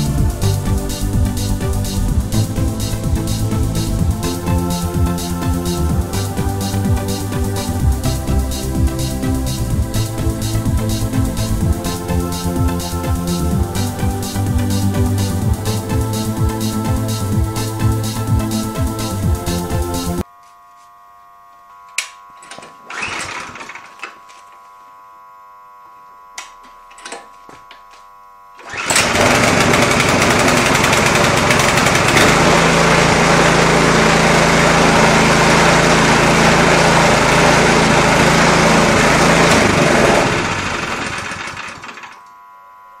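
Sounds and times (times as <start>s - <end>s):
snowblower engine running: 0.0s - 20.2s, 22.9s - 23.8s, 28.6s - 42.2s.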